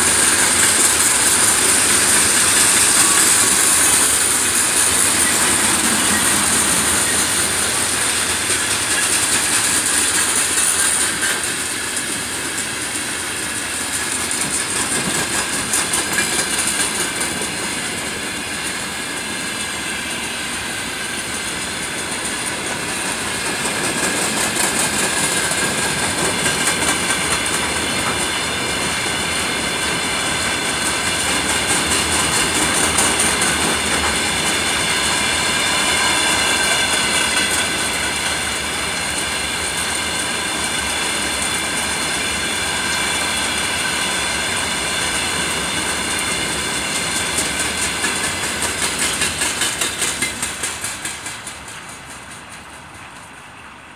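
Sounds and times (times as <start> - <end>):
wheels clattering over rail joints: 0.0 - 18.8, 21.5 - 53.4.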